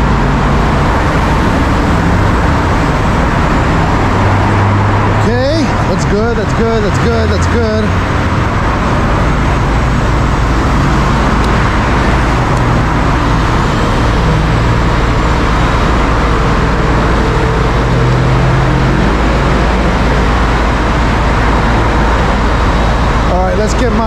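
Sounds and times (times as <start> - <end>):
diesel engine droning: 0.0 - 24.0
road noise: 0.0 - 24.0.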